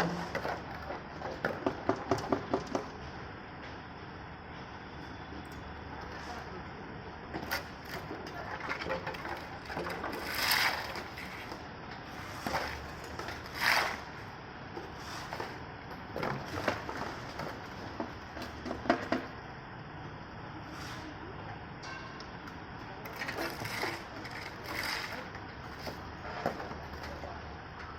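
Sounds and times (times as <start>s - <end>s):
steady background hum: 0.0s - 27.9s.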